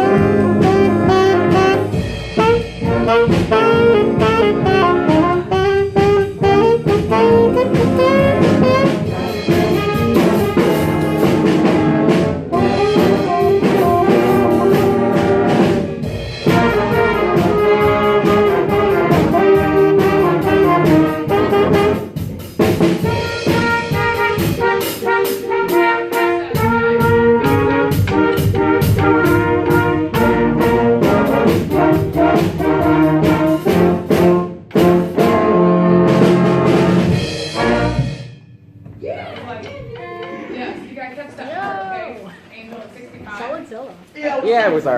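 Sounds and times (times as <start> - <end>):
jazz band with horns: 0.0 - 42.5.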